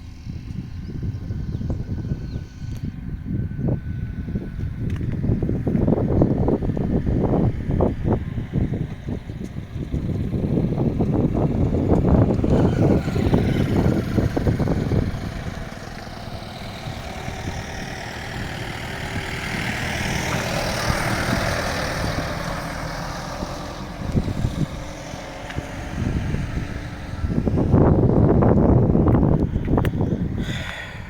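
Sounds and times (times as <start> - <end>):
vehicle engine and road noise: 0.0 - 31.0
wind buffeting microphone: 0.0 - 31.0.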